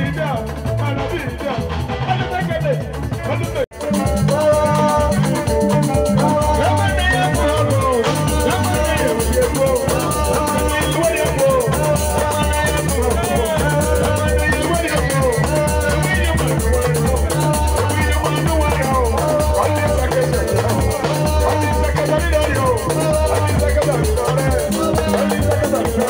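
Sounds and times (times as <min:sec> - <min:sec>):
bass and drum groove: 0:00.0 - 0:26.0.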